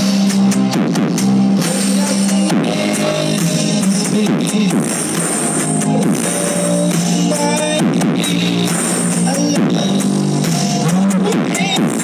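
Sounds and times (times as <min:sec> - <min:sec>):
loud music through speakers: 0:00.0 - 0:12.0.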